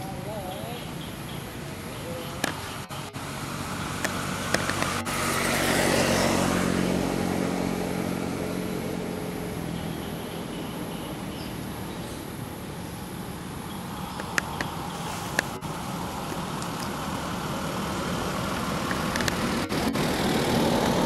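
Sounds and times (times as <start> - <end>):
vehicle passing by: 1.6 - 21.0.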